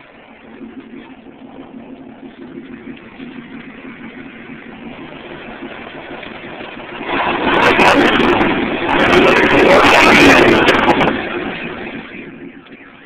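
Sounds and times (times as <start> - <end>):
car engine idling with racing exhaust: 0.0 - 13.0.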